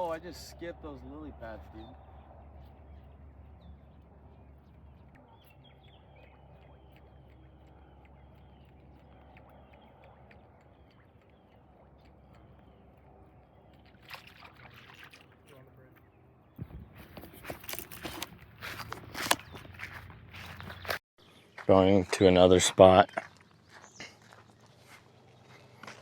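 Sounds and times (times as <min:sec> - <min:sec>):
bird chirping: 0:00.0 - 0:26.0.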